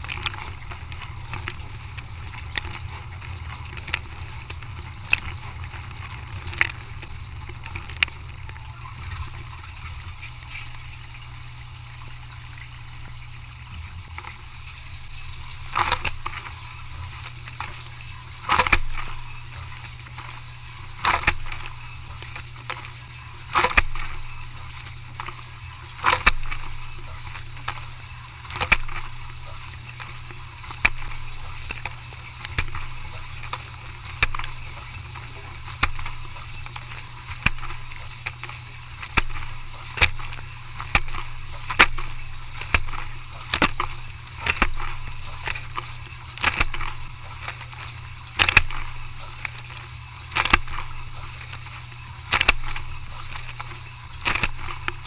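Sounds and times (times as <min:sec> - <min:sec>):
low machine hum and hiss: 0:00.0 - 0:55.0.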